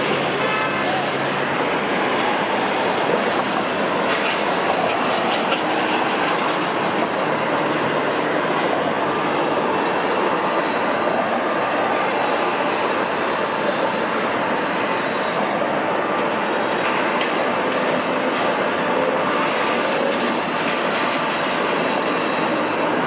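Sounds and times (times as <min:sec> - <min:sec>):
city noise rumble and hiss: 0:00.0 - 0:23.0.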